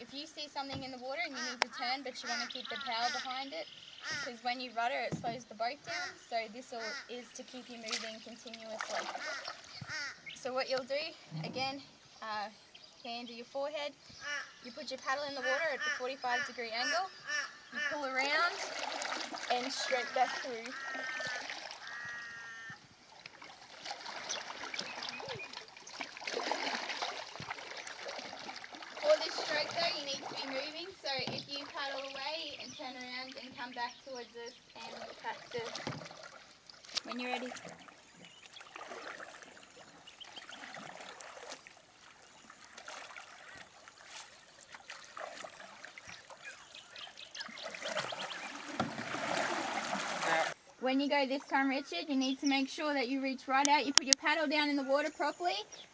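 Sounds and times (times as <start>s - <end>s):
water splashing and dripping: 0.0s - 12.4s, 17.8s - 50.6s
canoe paddle pulling through water: 0.0s - 53.0s.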